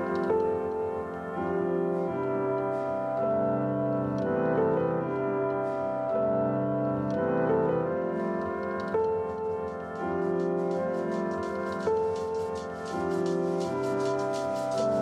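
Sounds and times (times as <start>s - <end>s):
sustained keyboard chords: 0.0s - 15.0s.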